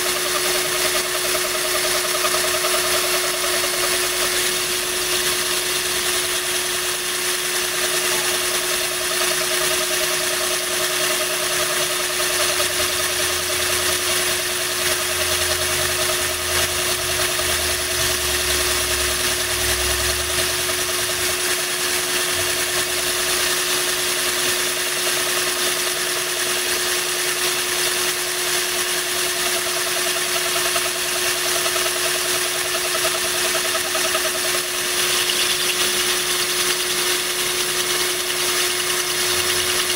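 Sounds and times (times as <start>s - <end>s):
power drill grinding glass: 0.0s - 39.9s.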